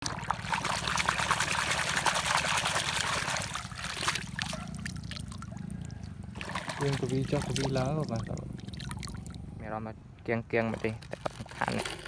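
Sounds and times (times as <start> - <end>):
water splashing and trickling: 0.0 - 9.6, 10.6 - 12.0
steady low hum: 0.0 - 11.1.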